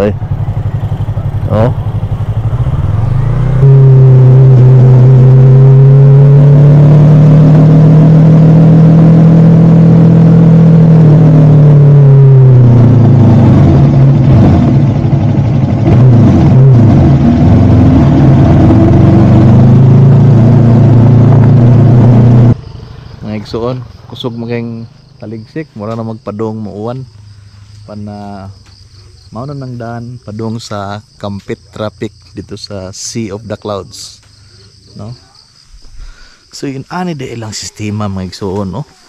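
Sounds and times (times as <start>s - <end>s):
motorcycle engine revving: 0.0s - 36.4s.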